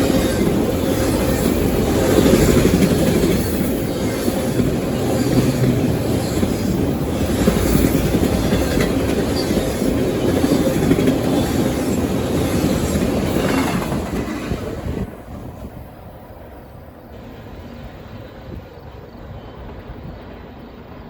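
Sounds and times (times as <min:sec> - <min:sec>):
freight train cars rolling past: 0:00.0 - 0:21.0.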